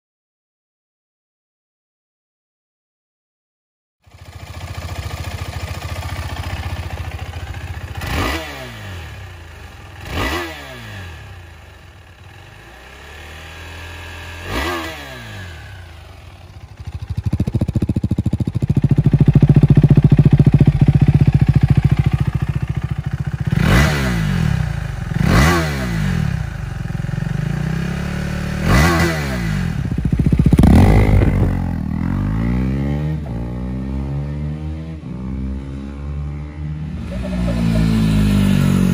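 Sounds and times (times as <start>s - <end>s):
motorcycle engine idling and revving: 4.0s - 38.9s
motorcycle accelerating away: 4.1s - 38.9s.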